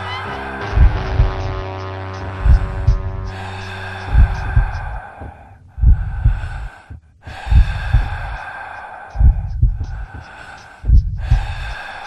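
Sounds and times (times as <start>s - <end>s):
deep heartbeat thumps: 0.0s - 8.4s, 9.2s - 11.8s
hissing breathy drone: 0.0s - 12.0s.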